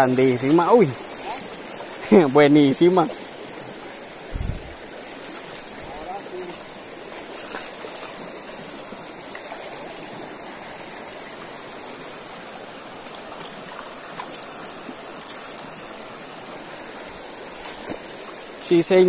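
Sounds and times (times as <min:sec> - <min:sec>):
stream rushing over stones: 0:00.0 - 0:19.0.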